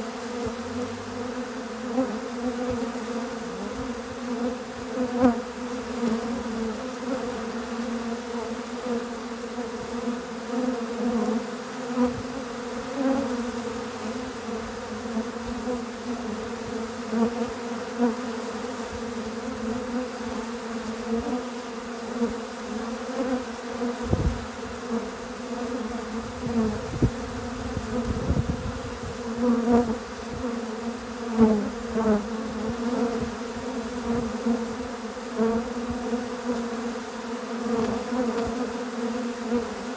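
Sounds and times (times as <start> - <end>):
bee buzzing close by: 0.0 - 39.9
bees humming: 0.0 - 39.9.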